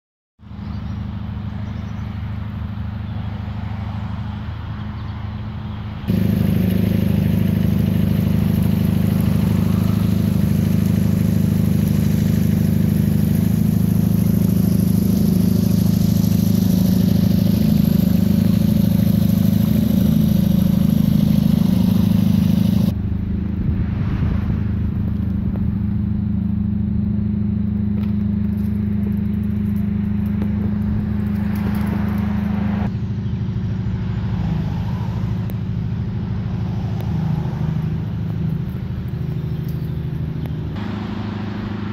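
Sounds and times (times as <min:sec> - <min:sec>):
loud low rumble with hum: 0:00.4 - 0:41.9.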